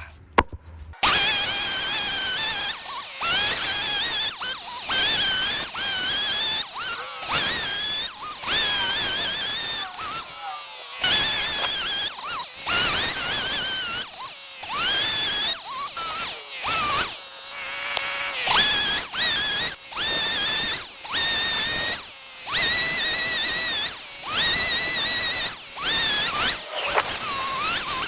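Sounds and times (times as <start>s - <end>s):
chainsaw revving: 1.0s - 28.0s.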